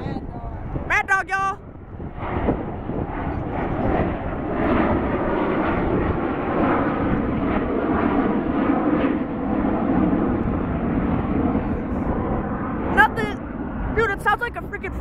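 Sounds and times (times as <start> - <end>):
jet engines roaring past: 0.0 - 15.0.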